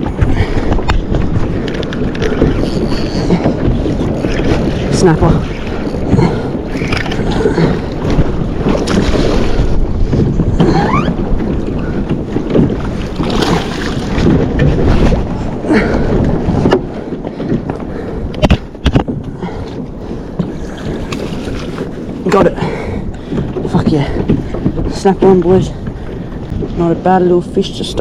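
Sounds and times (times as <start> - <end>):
water sloshing around kayak: 0.0 - 28.0
wind buffeting microphone: 0.0 - 28.0.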